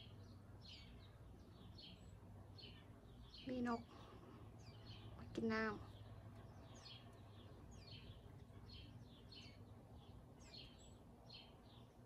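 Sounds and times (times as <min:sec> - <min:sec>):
low background hum: 0:00.0 - 0:12.0
songbird chirping faintly: 0:00.0 - 0:12.0.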